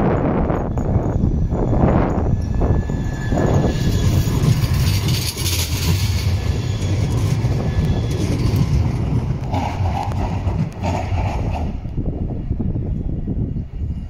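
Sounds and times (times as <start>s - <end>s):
tram rolling on rails: 0.0s - 14.0s.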